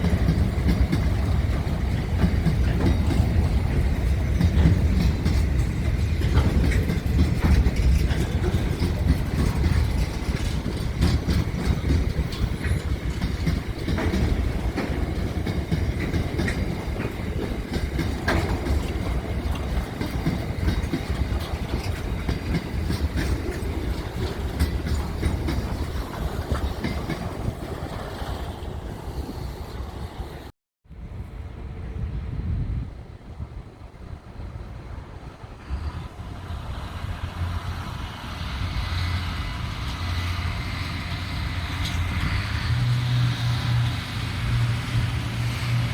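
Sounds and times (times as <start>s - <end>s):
wheels clicking over rail joints: 0.0s - 30.5s, 34.9s - 45.9s
train rumbling on rails: 0.0s - 45.9s.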